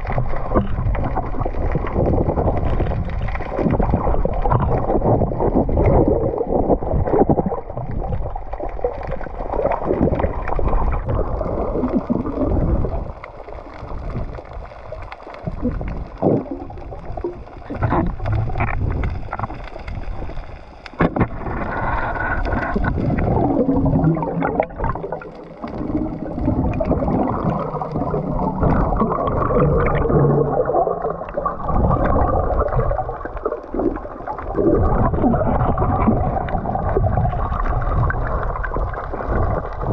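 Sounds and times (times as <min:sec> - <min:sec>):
water gurgling underwater: 0:00.0 - 0:39.9.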